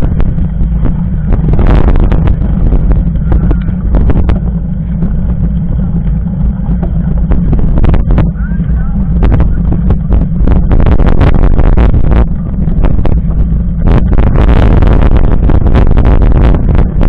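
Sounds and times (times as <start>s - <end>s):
wind and road rumble on microphone: 0.0s - 17.0s.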